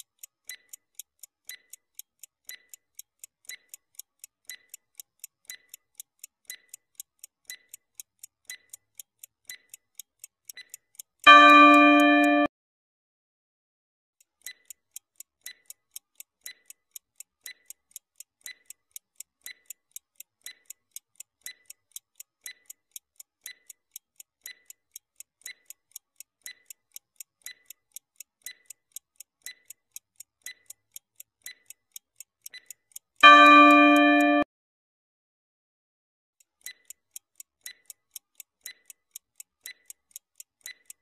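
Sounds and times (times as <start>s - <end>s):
clock ticking: 0.0s - 12.5s, 14.2s - 34.5s, 36.4s - 41.0s.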